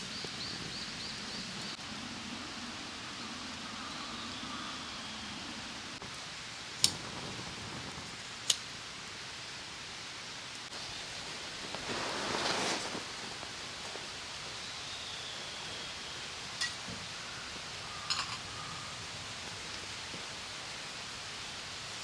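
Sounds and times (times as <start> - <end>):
steady outdoor hiss: 0.0 - 22.0
wind rustling through leaves: 0.0 - 22.0.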